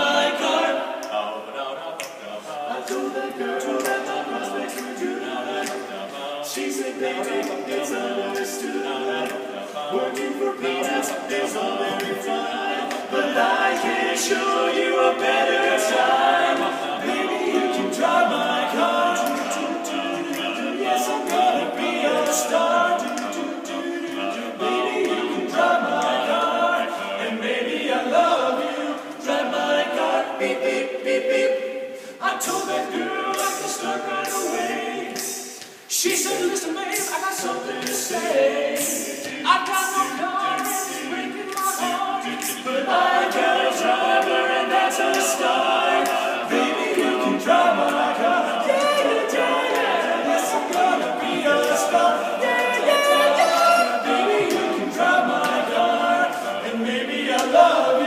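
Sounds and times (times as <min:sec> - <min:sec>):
a cappella group singing in harmony: 0:00.0 - 0:58.0
sharp rhythmic ticks: 0:00.1 - 0:31.4, 0:32.3 - 0:52.9, 0:53.9 - 0:58.0.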